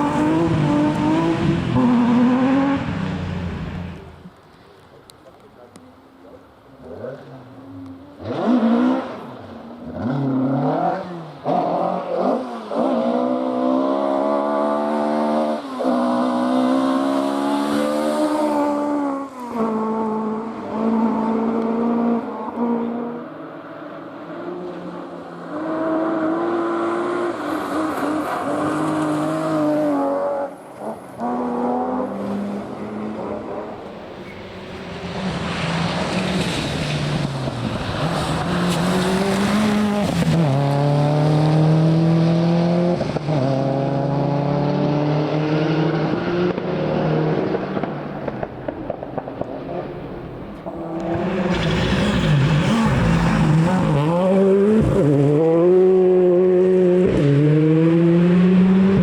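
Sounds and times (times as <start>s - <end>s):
rally car engine revving: 0.0s - 4.2s, 6.8s - 23.2s, 24.3s - 59.0s.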